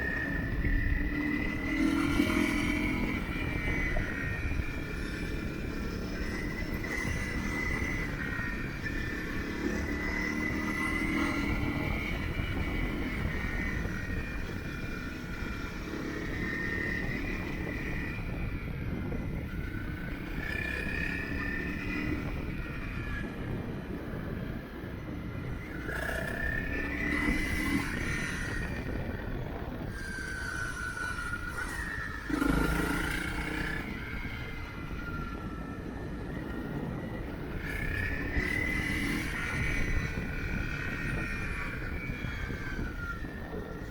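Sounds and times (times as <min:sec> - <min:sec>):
motorcycle engine running: 0:00.0 - 0:43.9
rushing wind noise: 0:00.0 - 0:43.9.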